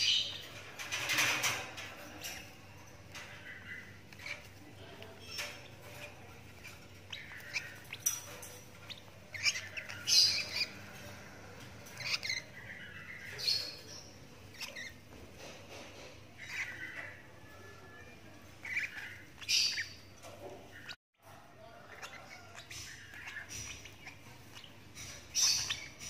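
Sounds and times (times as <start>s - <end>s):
bird chick chirping: 0.0s - 26.0s.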